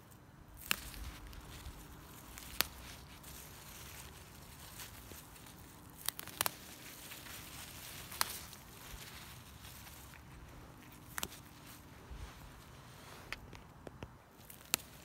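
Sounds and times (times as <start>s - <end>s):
hand rustling through plants: 0.0s - 15.0s
plant stems snapping: 0.5s - 12.7s, 13.3s - 15.0s.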